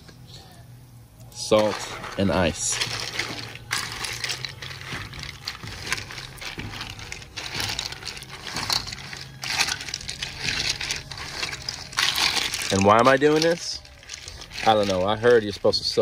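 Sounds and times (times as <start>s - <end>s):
low steady hum: 0.0s - 16.0s
ice cubes clinking in metal bowl: 1.4s - 16.0s.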